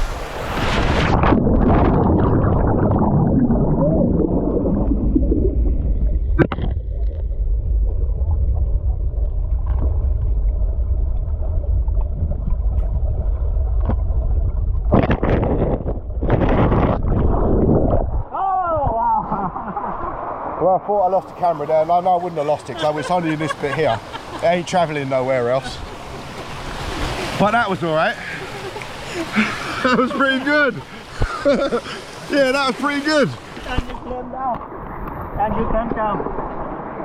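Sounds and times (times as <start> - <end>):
muffled underwater waterfall rush: 0.0 - 37.0
water splashes: 0.0 - 37.0.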